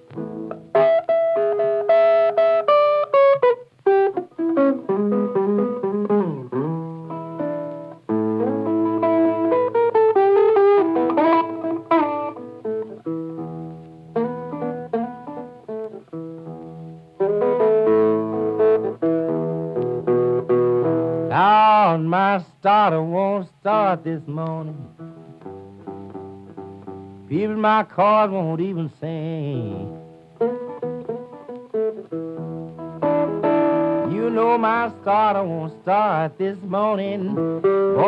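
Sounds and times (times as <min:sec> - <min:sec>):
solo blues guitar: 0:00.0 - 0:38.0.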